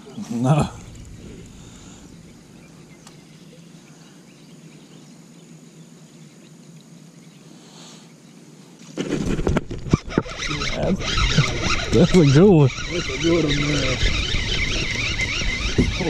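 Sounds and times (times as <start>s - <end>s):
faint outdoor background noise: 0.0s - 16.0s
insects droning: 0.0s - 16.0s.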